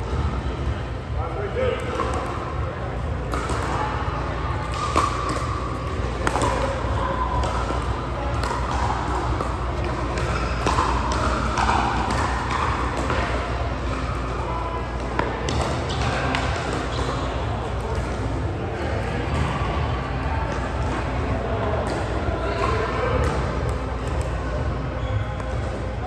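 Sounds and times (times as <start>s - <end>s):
murmur of voices: 0.0s - 26.0s.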